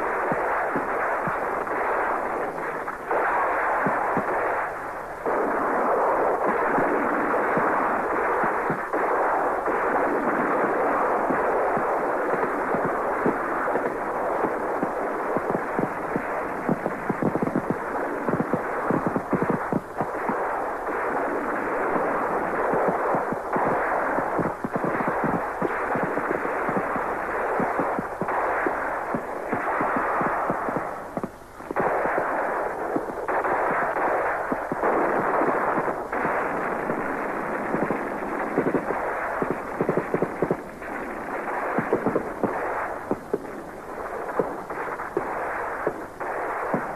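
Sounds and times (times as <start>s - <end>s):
muffled rapid gunfire: 0.0s - 46.9s
steady background noise: 0.0s - 46.9s.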